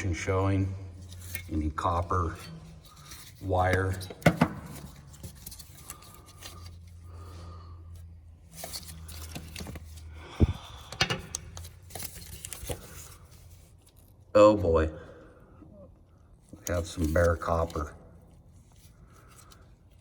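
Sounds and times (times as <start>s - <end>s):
hands handling wiring harness: 0.9s - 7.3s, 7.9s - 14.3s, 16.3s - 20.0s.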